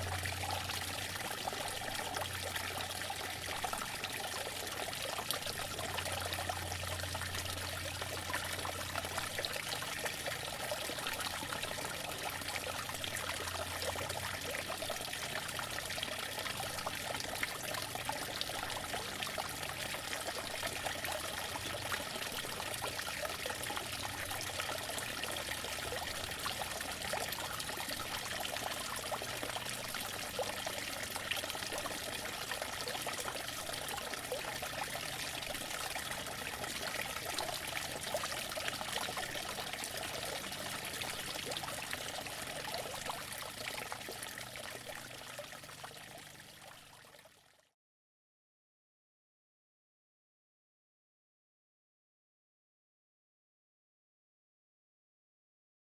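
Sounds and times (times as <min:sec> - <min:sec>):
fountain water splashing: 0:00.0 - 0:46.5.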